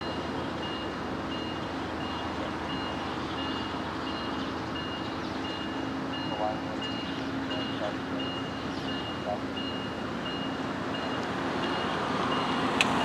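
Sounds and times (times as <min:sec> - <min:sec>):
electronic railroad crossing bell: 0:00.0 - 0:12.8.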